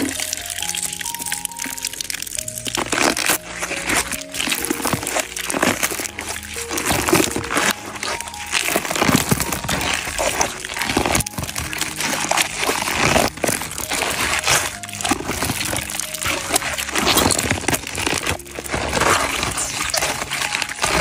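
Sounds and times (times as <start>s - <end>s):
faint music: 0.0s - 21.0s
wet rubber squelching and crackling: 0.0s - 21.0s.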